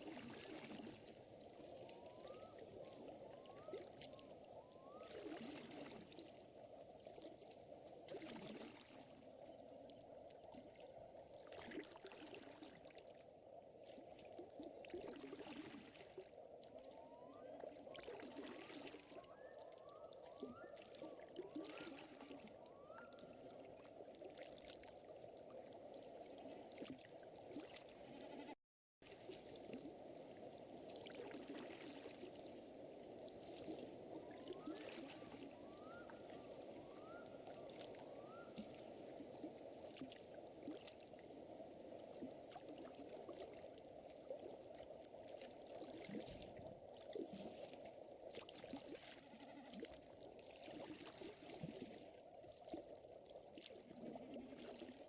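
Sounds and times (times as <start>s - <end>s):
trickling lake water: 0.0s - 55.0s.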